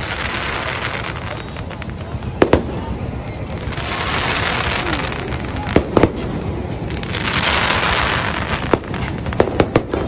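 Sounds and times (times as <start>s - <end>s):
fireworks bangs: 0.0s - 10.0s
fireworks hissing: 0.0s - 10.0s.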